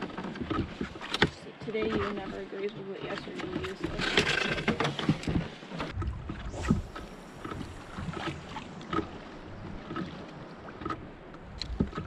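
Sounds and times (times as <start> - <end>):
water rumbling along hull: 0.0 - 12.0.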